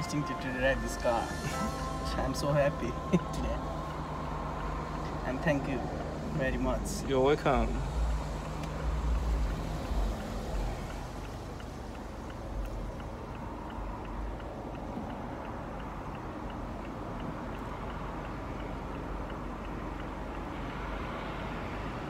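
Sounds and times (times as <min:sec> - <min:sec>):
faint high ticking: 0:00.0 - 0:21.0
road and wind noise: 0:00.0 - 0:22.0.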